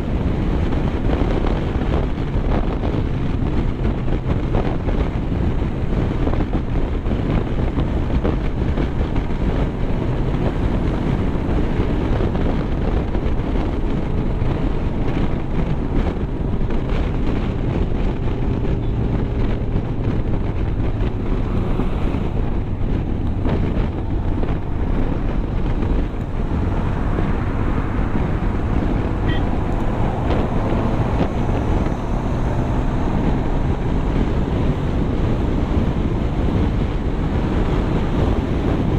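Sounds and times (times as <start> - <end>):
vehicle road and engine noise: 0.0 - 38.9
wind over microphone: 0.0 - 38.9.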